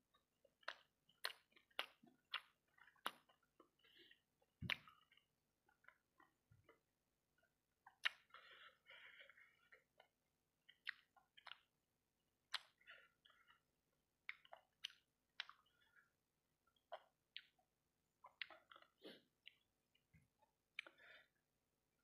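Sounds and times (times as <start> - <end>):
person chewing: 0.1 - 6.9, 7.8 - 11.8, 12.4 - 21.3.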